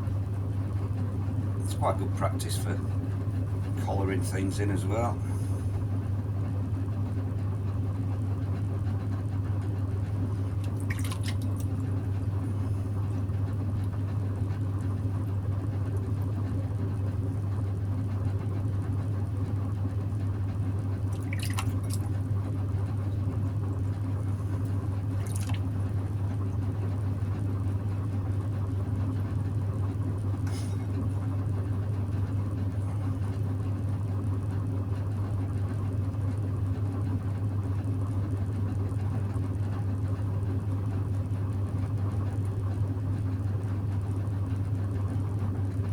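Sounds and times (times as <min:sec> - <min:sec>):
potter's wheel motor humming: 0:00.0 - 0:45.9.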